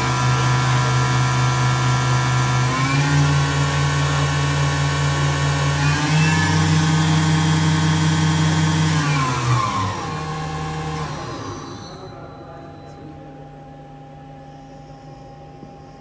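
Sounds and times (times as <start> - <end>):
machine spindle motor whine: 0.0 - 16.0.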